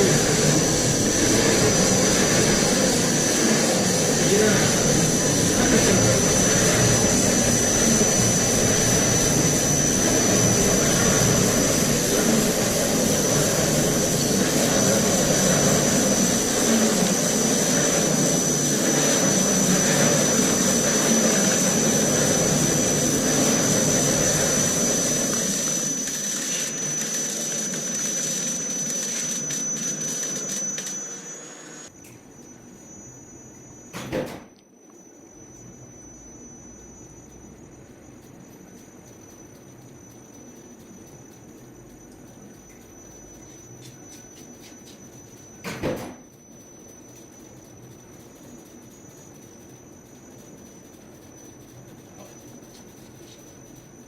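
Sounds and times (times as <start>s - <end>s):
wrapping machine running with whine: 0.0s - 54.0s.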